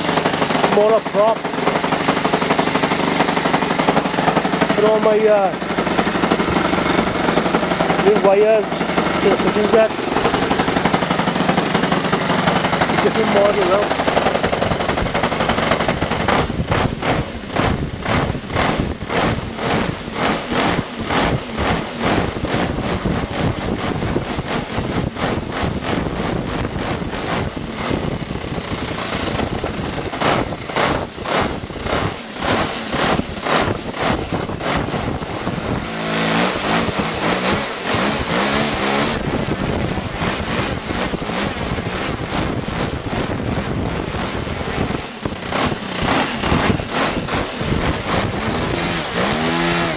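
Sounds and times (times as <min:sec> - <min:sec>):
model airplane engine running: 0:00.0 - 0:49.9.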